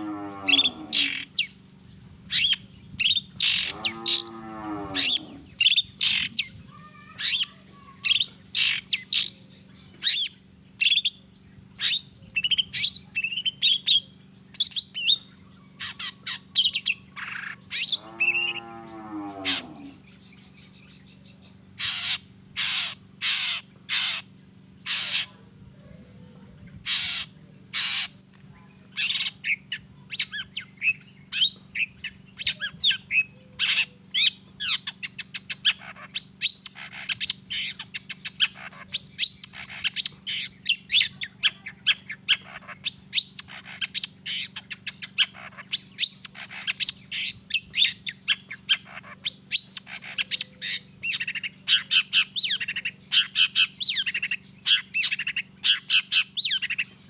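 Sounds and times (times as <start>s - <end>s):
bird scratchy squawks and chirps: 0.0s - 1.5s, 2.3s - 9.4s, 10.0s - 11.1s, 11.8s - 14.0s, 15.8s - 18.6s, 19.4s - 20.1s, 21.8s - 25.4s, 26.8s - 28.3s, 28.9s - 57.0s.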